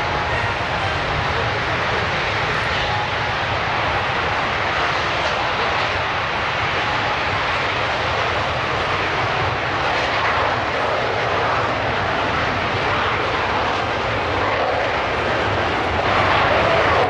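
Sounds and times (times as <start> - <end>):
jet engines flying overhead: 0.0 - 17.0.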